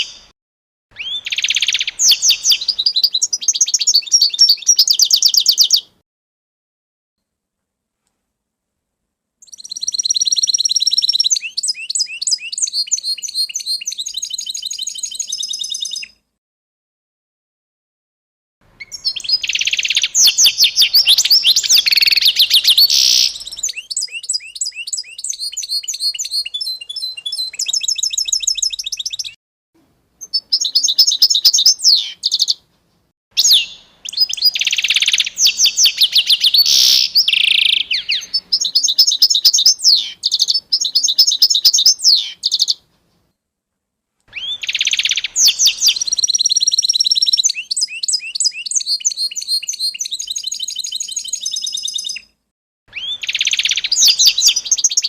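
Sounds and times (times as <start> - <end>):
songbirds chirping and trilling: 0.9 - 6.0, 9.4 - 16.2, 18.7 - 29.4, 30.2 - 32.7, 33.4 - 43.3, 44.3 - 55.0.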